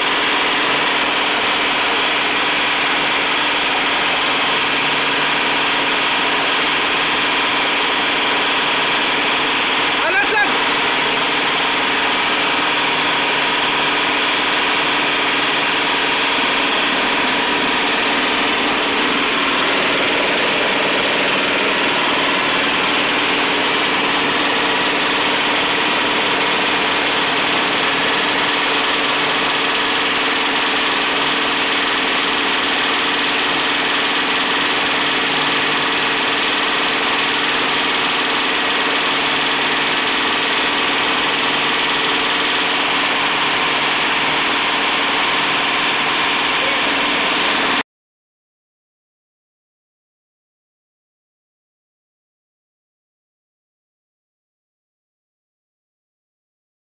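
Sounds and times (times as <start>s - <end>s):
oil press machine running: 0.0s - 47.8s.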